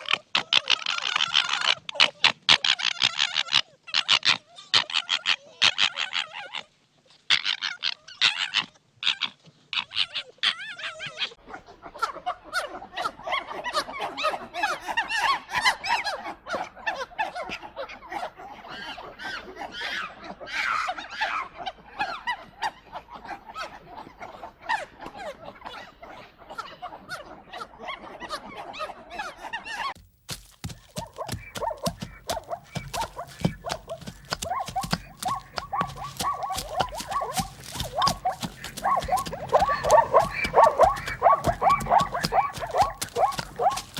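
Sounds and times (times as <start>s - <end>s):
animals yelping and barking: 0.0s - 43.9s.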